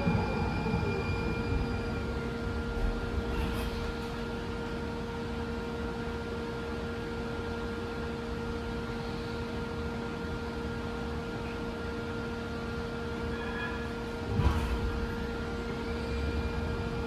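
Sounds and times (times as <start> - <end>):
rail car ventilation drone: 0.0 - 17.0.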